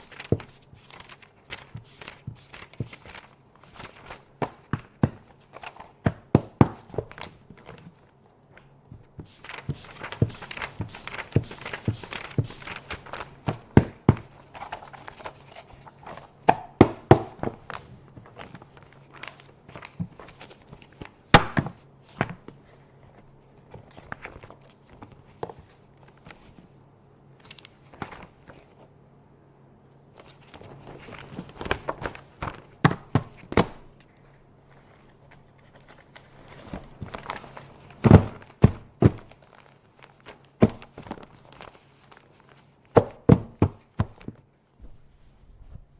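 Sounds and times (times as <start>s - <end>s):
paper rustling and crinkling: 0.0s - 26.7s, 27.4s - 28.9s, 30.2s - 45.9s.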